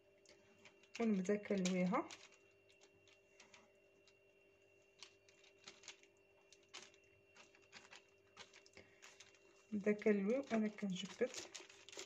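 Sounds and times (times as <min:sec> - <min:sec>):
faint steady hum: 0:00.0 - 0:12.0
dough rolling clicks and ticks: 0:00.1 - 0:04.2, 0:04.9 - 0:12.0.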